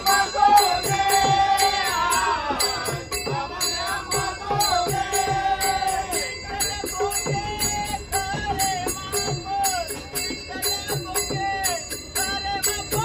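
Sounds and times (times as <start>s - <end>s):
small hand cymbals: 0.0s - 13.0s.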